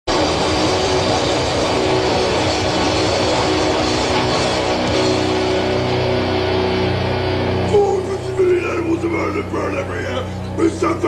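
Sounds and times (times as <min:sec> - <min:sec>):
crust punk music: 0:00.1 - 0:11.0.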